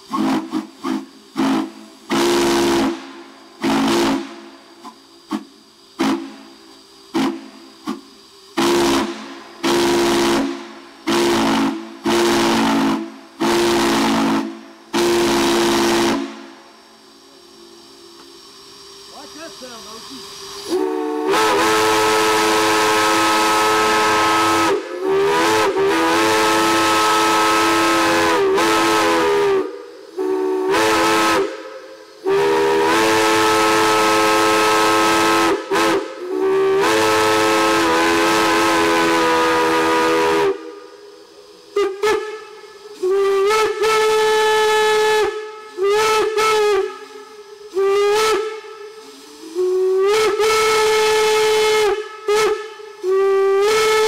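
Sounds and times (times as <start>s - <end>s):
steam whistle blasts: 0.0s - 18.0s, 20.6s - 54.0s
steam hiss: 0.0s - 54.0s.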